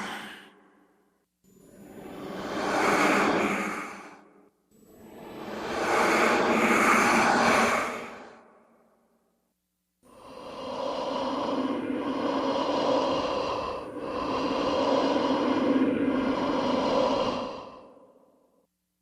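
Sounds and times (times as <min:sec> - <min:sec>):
ghostly heavy breathing: 0:00.0 - 0:09.3, 0:10.0 - 0:18.7.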